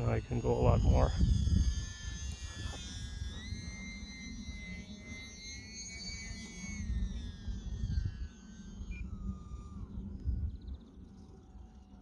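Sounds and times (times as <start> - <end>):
electric motor and propeller whining: 0.0 - 12.0
wind rumble on microphone: 0.0 - 12.0.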